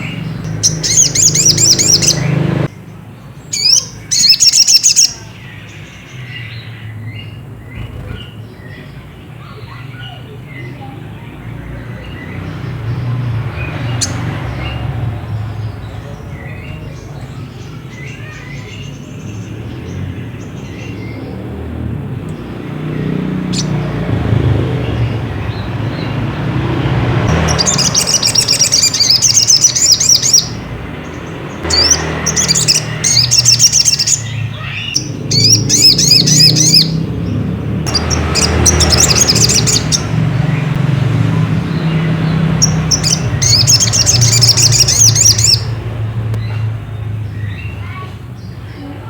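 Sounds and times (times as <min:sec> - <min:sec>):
bird chirping: 0:00.0 - 0:49.0.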